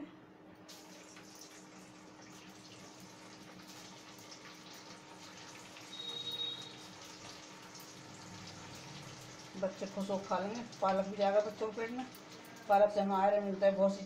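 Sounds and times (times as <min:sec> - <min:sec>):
deep-frying sizzle: 0:00.6 - 0:14.0.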